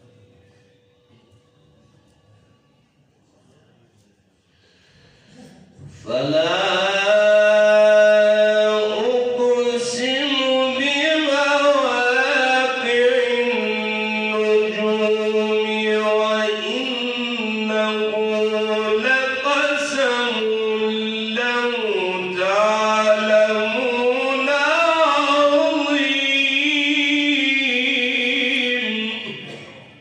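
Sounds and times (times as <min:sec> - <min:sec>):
man chanting melodically: 0:05.8 - 0:30.0.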